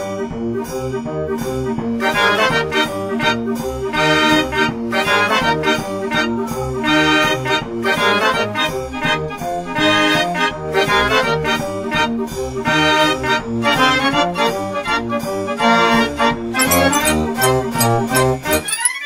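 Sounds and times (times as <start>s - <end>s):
music with steady bass beat: 0.0s - 18.6s.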